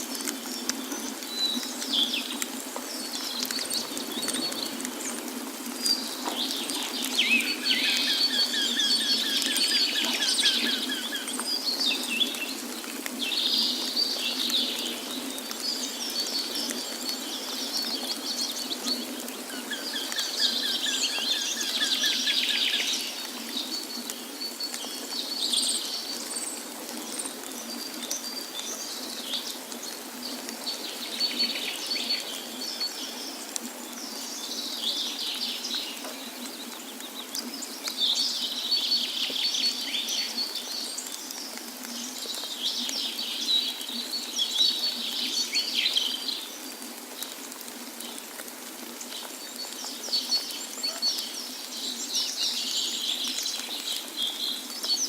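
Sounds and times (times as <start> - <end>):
songbirds chirping: 0.1 - 55.0.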